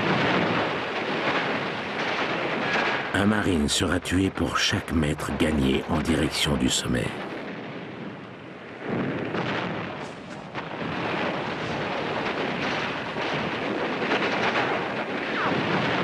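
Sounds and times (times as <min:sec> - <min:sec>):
distant artillery and explosions: 0:00.0 - 0:16.0.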